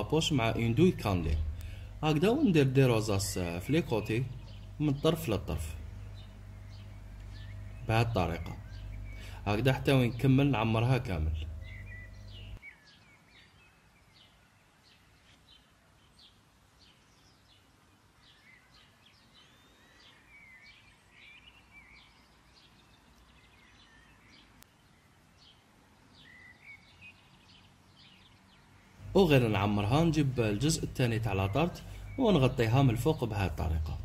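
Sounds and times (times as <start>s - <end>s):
faint bird chirps: 0.0s - 34.0s.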